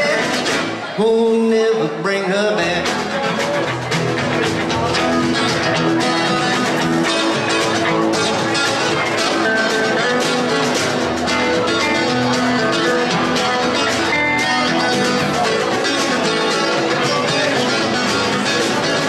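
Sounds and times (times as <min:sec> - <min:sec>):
rockabilly band playing: 0:00.0 - 0:19.0.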